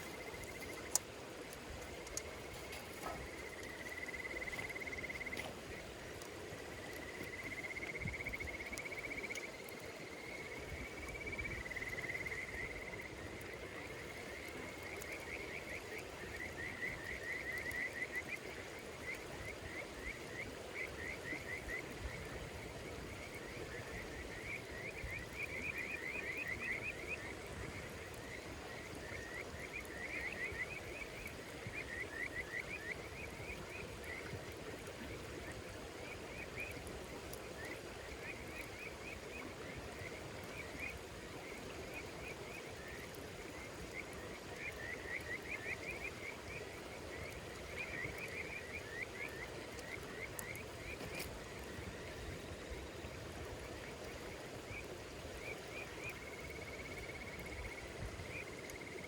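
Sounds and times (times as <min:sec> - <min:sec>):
wood fire crackling: 0:00.0 - 0:57.4
insects chirping trills: 0:00.0 - 0:59.0.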